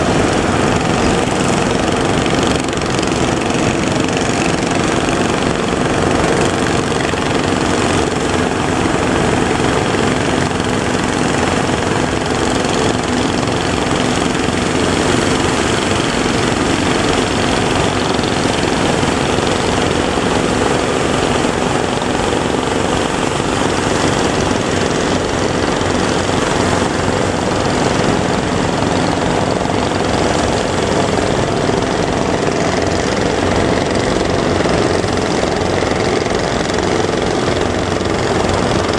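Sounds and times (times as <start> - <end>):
constant rushing noise: 0.0 - 38.9
engine running steadily: 0.0 - 38.9.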